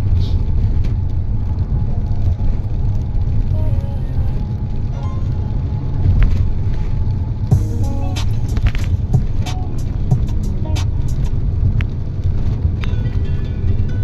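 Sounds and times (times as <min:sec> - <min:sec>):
car rumbling on road: 0:00.0 - 0:14.0
faint music: 0:00.2 - 0:14.0.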